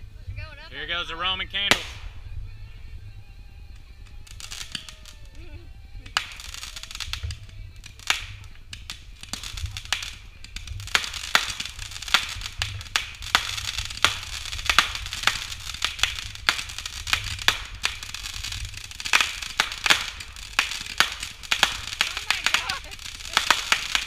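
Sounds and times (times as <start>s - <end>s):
crackling hiss: 0.0s - 24.0s
fireworks popping and banging: 0.3s - 24.0s.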